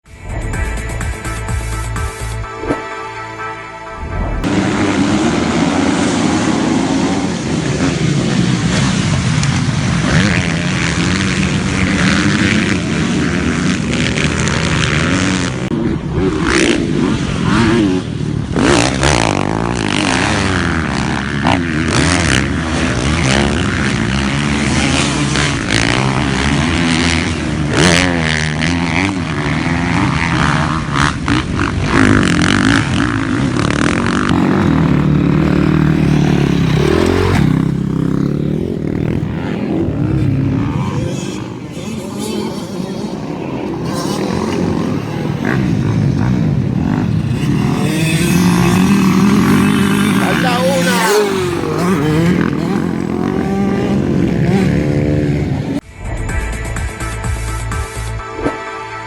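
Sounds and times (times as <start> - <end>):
motocross bikes revving: 4.4 - 55.8.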